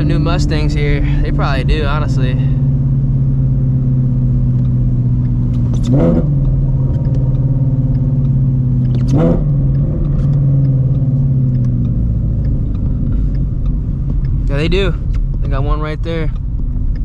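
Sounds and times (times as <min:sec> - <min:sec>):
car engine deep drone: 0:00.0 - 0:17.0.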